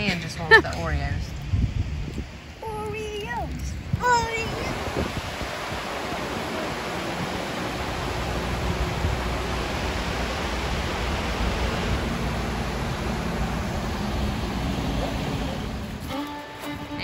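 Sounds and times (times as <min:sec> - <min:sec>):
river water rushing over rocks: 0:02.7 - 0:17.0.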